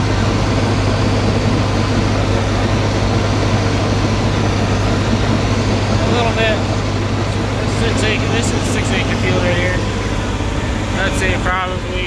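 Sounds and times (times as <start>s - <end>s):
tractor engine running under load: 0.0s - 12.0s.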